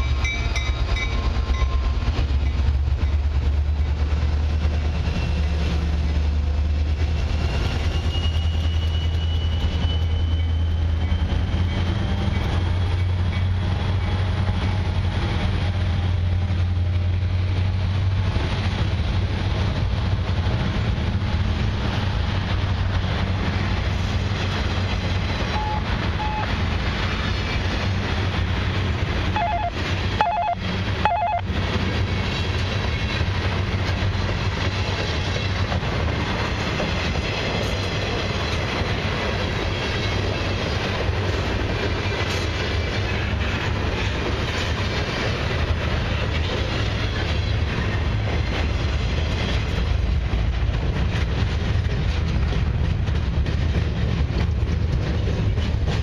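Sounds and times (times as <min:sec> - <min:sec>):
steel wheels rolling on rail: 0:00.0 - 0:56.0.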